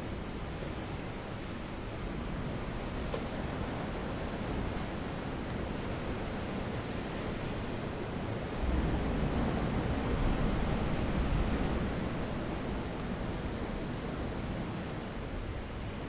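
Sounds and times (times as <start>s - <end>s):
ocean surf roaring in a sea cave: 0.0s - 16.0s.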